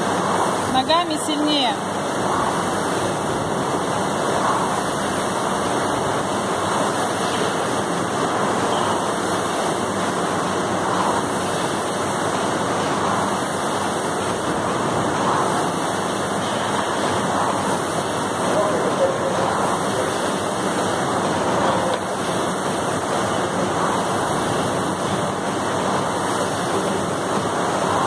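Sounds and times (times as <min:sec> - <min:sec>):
rowing machine fan whooshing: 0:00.0 - 0:28.0.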